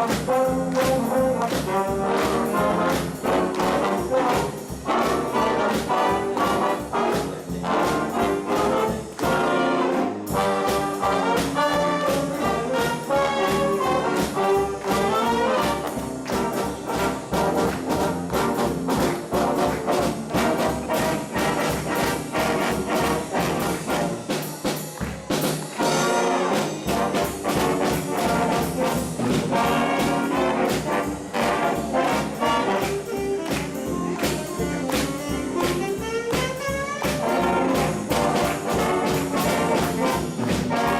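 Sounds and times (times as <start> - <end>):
big band playing jazz: 0.0 - 40.9
swing beat on drums: 0.0 - 40.9
trumpets and trombones: 0.0 - 40.9.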